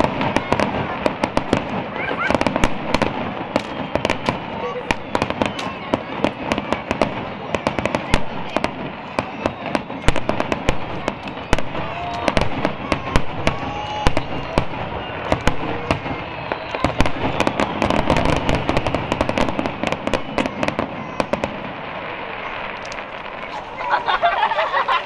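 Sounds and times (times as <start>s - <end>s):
firework shells bursting: 0.0s - 23.8s
continuous firework crackle: 0.0s - 25.0s.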